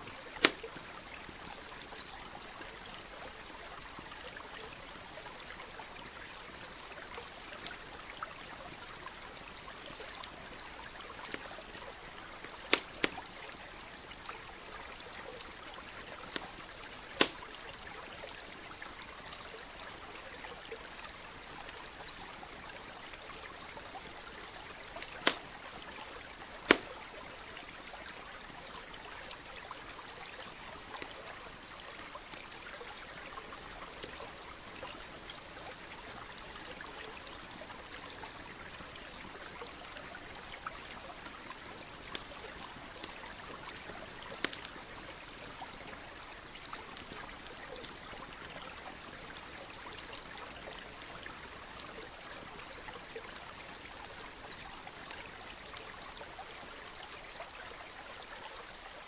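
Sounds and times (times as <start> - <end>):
campfire crackling and popping: 0.0 - 59.0
stream trickling: 0.0 - 59.0.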